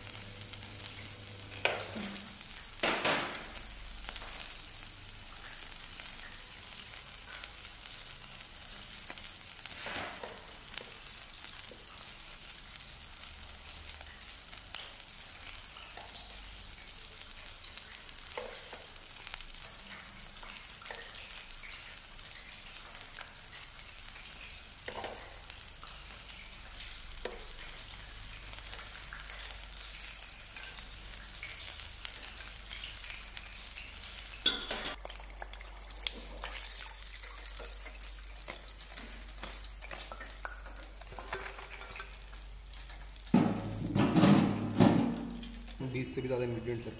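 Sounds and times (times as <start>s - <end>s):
food sizzling on a griddle: 0.0s - 43.9s, 45.1s - 46.9s.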